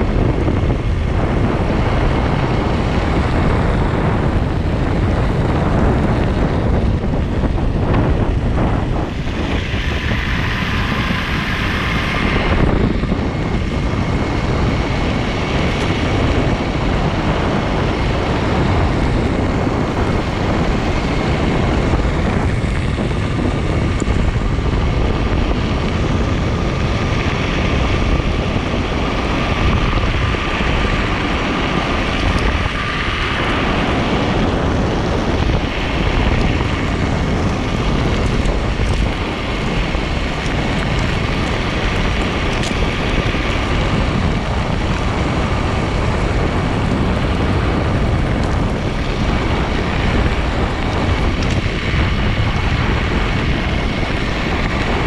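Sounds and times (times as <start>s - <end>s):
skateboard tyres rumbling on gravel: 0.0s - 55.0s
wind on microphone: 0.0s - 55.0s.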